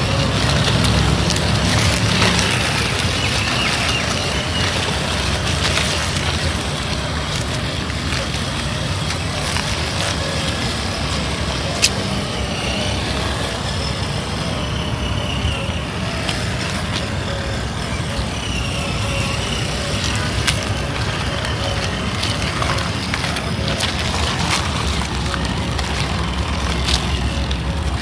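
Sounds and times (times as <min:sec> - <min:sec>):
electric motor and gearbox whining: 0:00.0 - 0:28.0
steady low rumble: 0:00.0 - 0:28.0.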